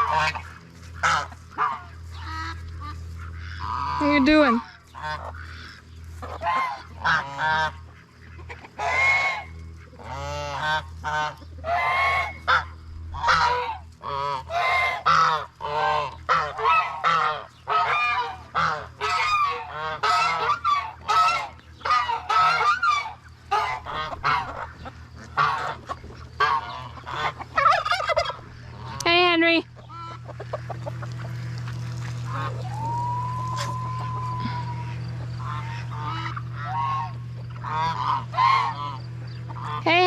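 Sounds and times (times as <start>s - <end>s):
geese honking: 0.0s - 40.0s
steady low hum: 0.0s - 40.0s.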